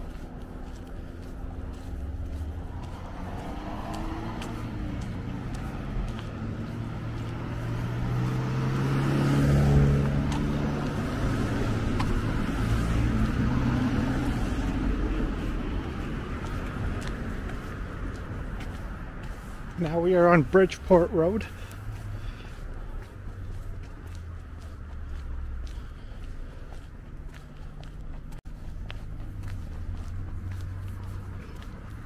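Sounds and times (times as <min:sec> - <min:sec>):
car passing by: 0:00.0 - 0:32.0
traffic going by: 0:00.0 - 0:32.0.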